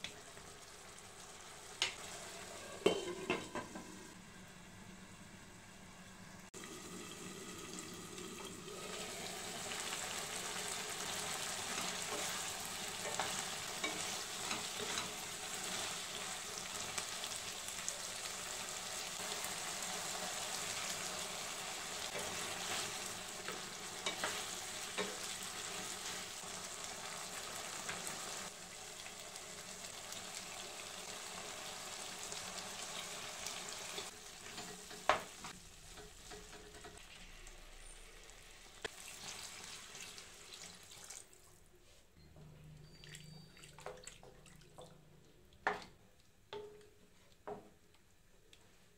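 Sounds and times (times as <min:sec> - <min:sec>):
vegetables sizzling in a pan: 0:00.0 - 0:41.3.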